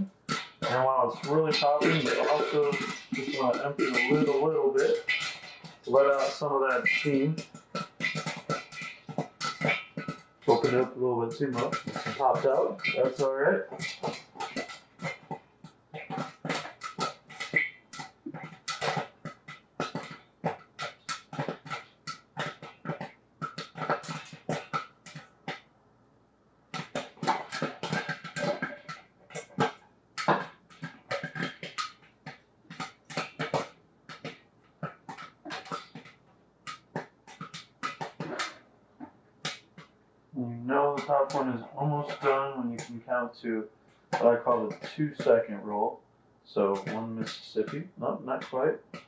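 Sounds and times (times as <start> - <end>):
popcorn popping in a pot: 0.0 - 25.7, 26.7 - 43.3, 44.0 - 45.8, 46.5 - 49.0.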